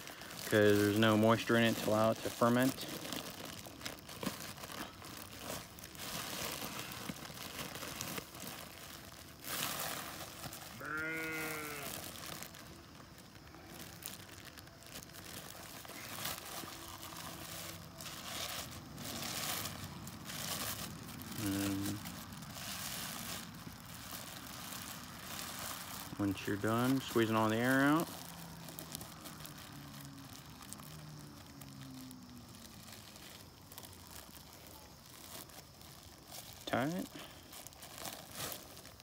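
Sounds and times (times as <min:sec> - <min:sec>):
plastic bag crinkling: 0:00.0 - 0:39.0.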